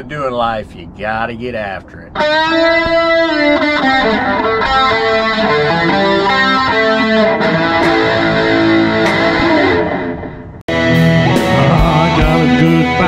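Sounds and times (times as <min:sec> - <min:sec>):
distorted electric guitar: 0:02.1 - 0:13.0.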